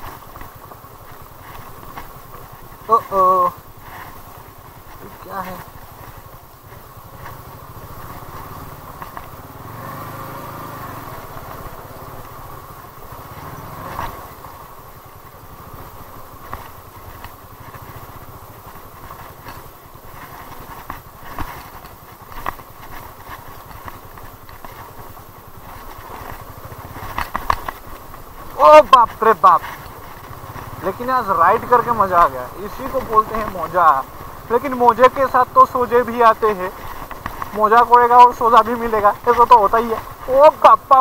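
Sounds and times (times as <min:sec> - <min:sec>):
sharp knocks and rattles: 0:00.0 - 0:10.3, 0:15.6 - 0:40.8
motorcycle engine running: 0:00.0 - 0:41.0.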